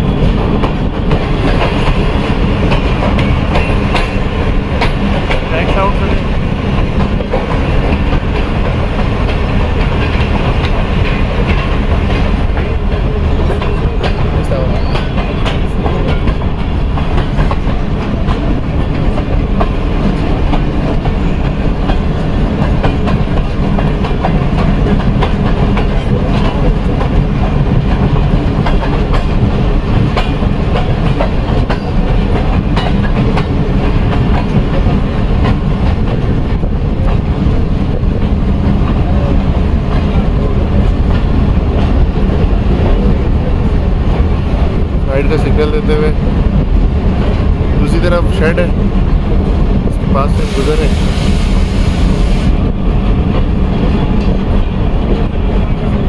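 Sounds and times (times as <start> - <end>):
rail joint clicks and clatter: 0.0 - 56.0
train wheels rumbling on rails: 0.0 - 56.0.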